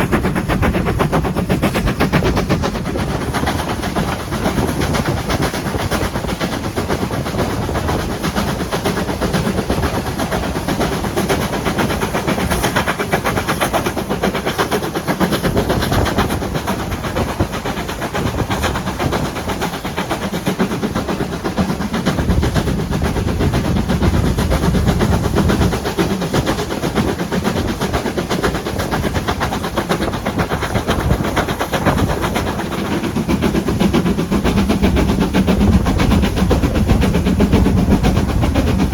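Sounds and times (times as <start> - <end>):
rapid rattling and clicking: 0.0 - 38.9
train rumbling along rails: 0.0 - 38.9.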